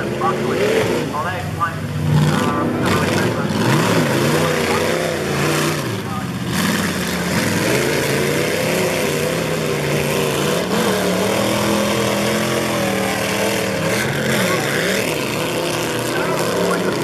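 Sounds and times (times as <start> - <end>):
buggy engine revving in mud: 0.0 - 17.0.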